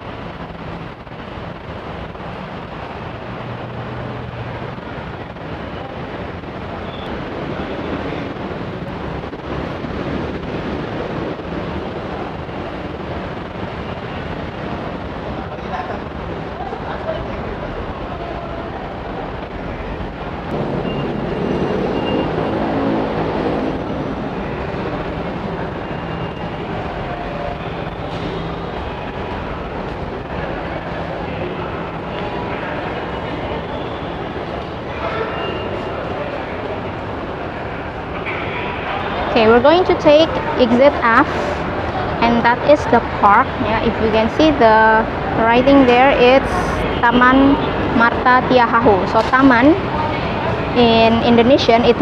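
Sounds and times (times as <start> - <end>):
rumbling station ambience: 0.0 - 52.0.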